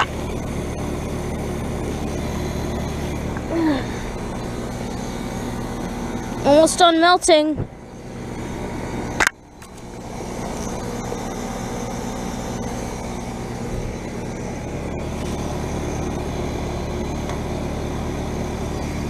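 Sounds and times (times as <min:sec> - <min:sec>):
heat pump unit humming: 0:00.0 - 0:19.0.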